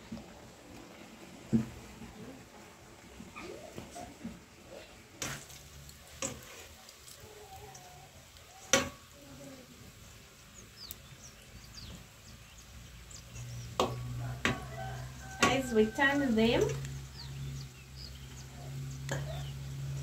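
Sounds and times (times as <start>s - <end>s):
dough sizzling in oil: 0.0s - 20.0s.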